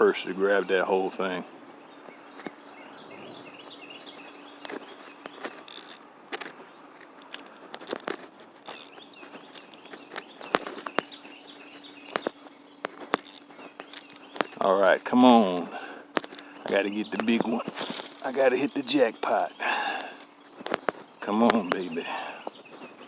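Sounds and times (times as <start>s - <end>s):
faint steady hum: 0.0s - 23.0s
small birds chirping: 0.0s - 23.0s.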